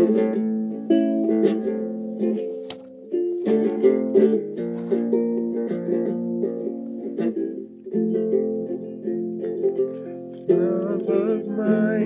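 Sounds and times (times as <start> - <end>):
fingerpicked guitalele: 0.0 - 12.0.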